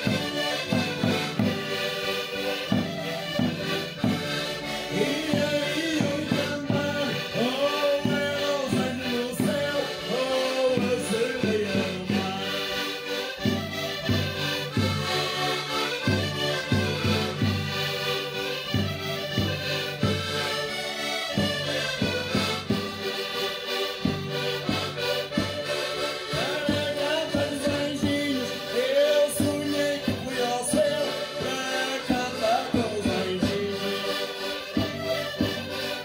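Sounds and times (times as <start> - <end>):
button accordions playing folk tune: 0.0 - 36.0.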